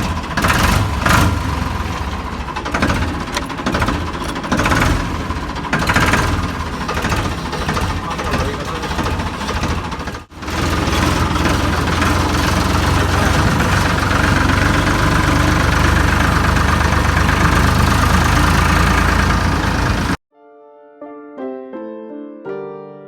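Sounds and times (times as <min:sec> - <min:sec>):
diesel tractor engine running: 0:00.0 - 0:20.2.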